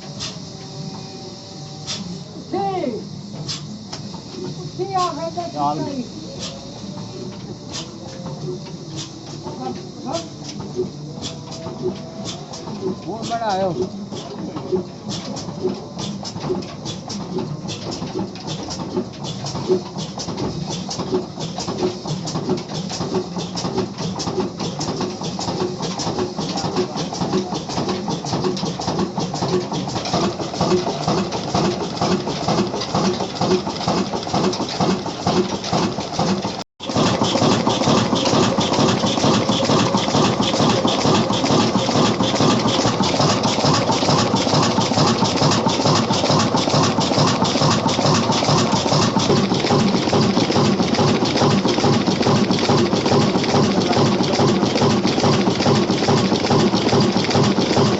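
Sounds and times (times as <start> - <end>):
single-cylinder diesel engine running: 0.0 - 57.9.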